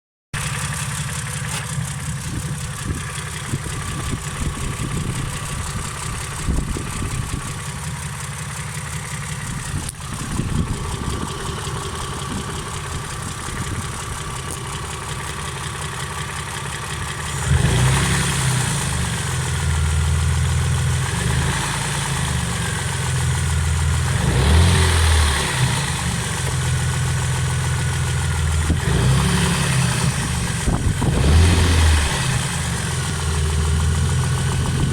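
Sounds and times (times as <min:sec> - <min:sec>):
car engine idling with knock: 0:00.4 - 0:34.9.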